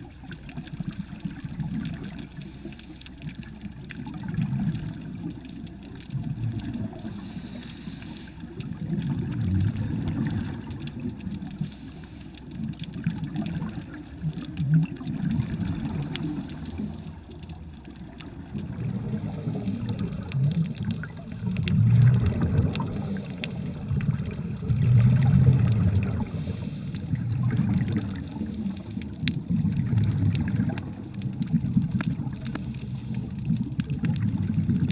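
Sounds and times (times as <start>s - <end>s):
faint clicks: 0.0s - 34.9s
underwater regulator bubbles gurgling: 0.0s - 34.9s.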